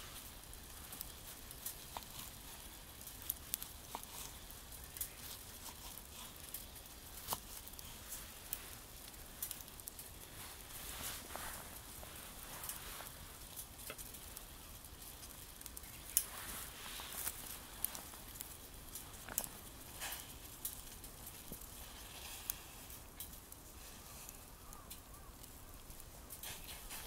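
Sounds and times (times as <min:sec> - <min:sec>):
twig fire crackling: 0:00.0 - 0:27.0
sharp pops of fire: 0:00.1 - 0:27.0.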